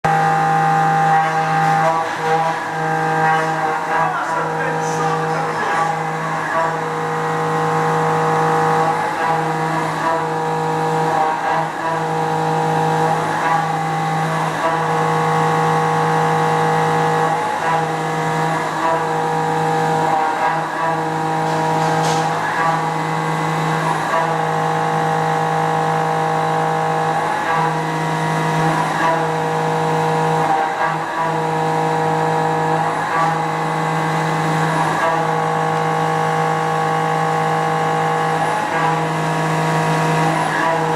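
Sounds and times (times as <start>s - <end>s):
milling spindle whine: 0.1s - 40.9s.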